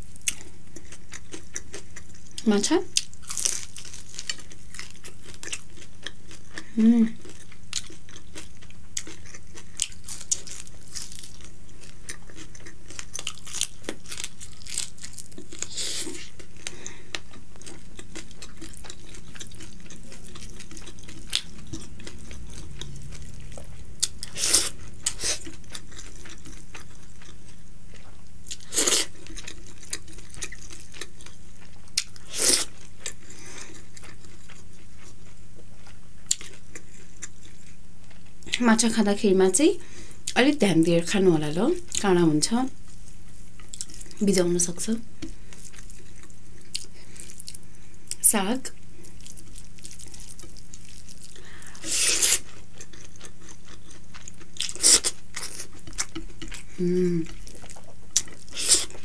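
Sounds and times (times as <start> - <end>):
chewing and crunching food: 0.0 - 39.0, 41.8 - 59.0
steady low hum: 0.0 - 59.0.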